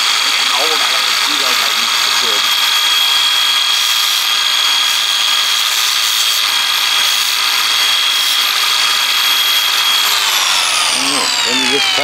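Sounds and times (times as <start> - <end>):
angle grinder sanding metal: 0.0 - 12.0.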